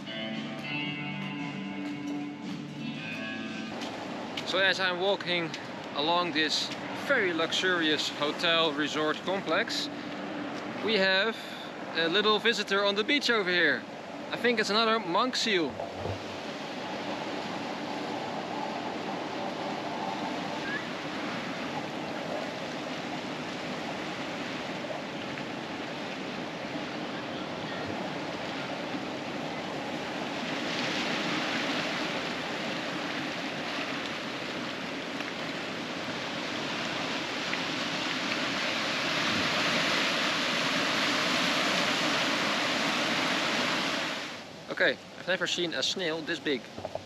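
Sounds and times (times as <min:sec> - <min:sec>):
ocean surf on sandy beach: 0:03.4 - 0:47.0.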